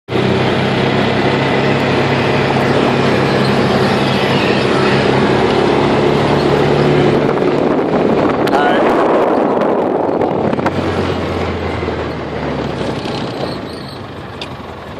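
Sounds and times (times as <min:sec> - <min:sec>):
engine running steadily: 0:00.1 - 0:14.9.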